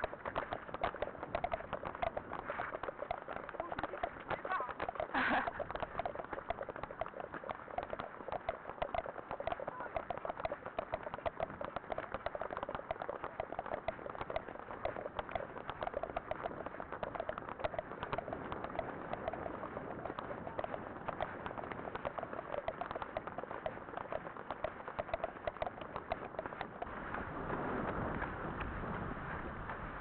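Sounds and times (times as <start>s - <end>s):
horse hoofbeats on wet sand: 0.0s - 30.0s.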